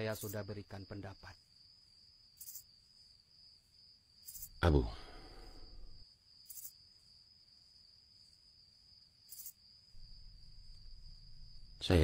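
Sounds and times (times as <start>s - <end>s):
cricket trill: 0.0s - 12.0s
higher cricket chirps: 0.0s - 12.0s.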